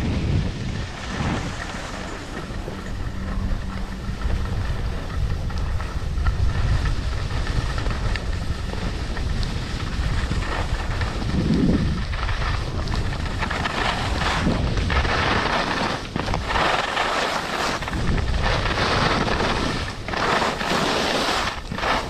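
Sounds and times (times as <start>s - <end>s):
skis scraping on snow: 0.0s - 22.0s
wind rushing over microphone: 0.0s - 22.0s.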